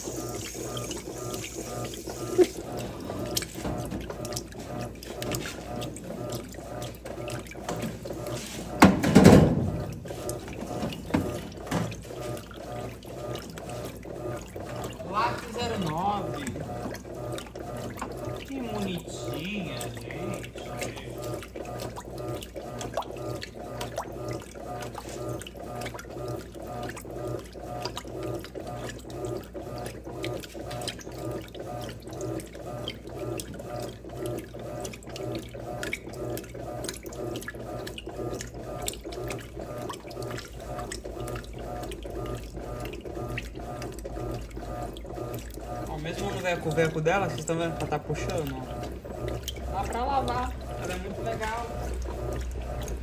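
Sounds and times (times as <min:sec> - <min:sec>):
washing machine motor hum: 0:00.0 - 0:53.0
water sloshing: 0:00.0 - 0:53.0
water splashes and drips: 0:00.0 - 0:53.0.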